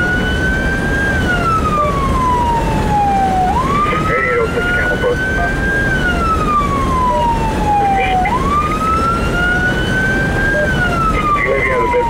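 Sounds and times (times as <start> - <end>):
engine and tyre rumble: 0.0 - 12.0
siren wailing: 0.0 - 12.0.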